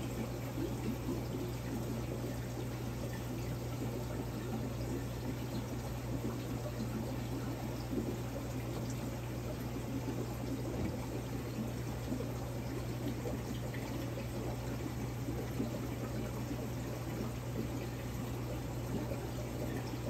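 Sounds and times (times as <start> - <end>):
aquarium water bubbling: 0.0 - 20.0
low equipment hum: 0.0 - 20.0.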